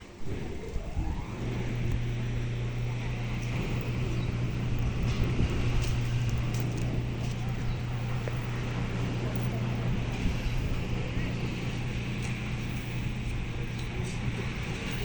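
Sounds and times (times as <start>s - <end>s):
boat engine humming: 0.0s - 15.0s
rushing background noise: 0.0s - 15.0s.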